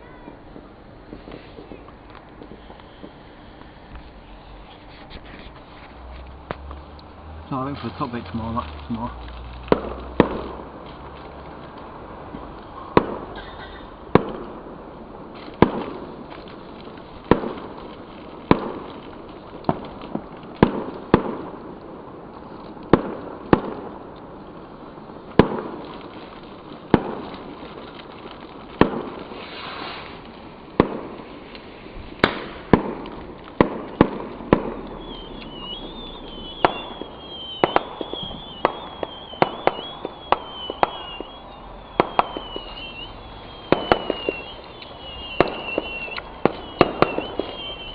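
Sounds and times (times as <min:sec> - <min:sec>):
fireworks bangs with echo: 0:00.0 - 0:04.1, 0:06.4 - 0:47.9
whistling firework: 0:00.0 - 0:47.9.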